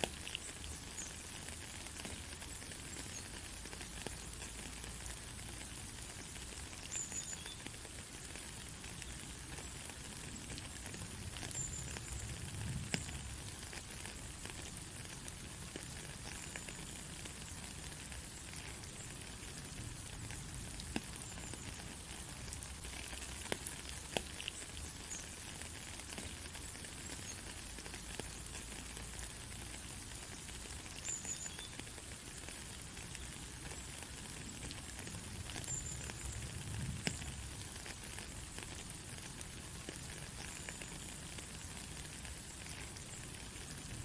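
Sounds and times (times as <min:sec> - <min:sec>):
rain drop ticks: 0:00.0 - 0:44.0
steady rain hiss: 0:00.0 - 0:44.0.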